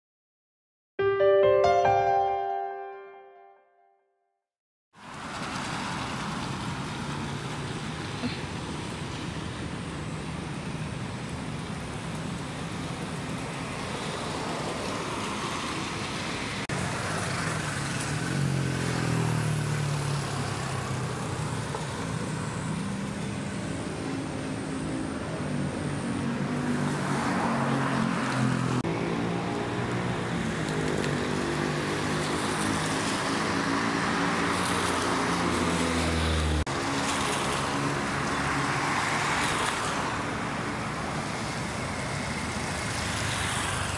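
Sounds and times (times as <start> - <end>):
tyre and road noise: 5.0 - 43.9
vehicle engines passing: 5.0 - 43.9.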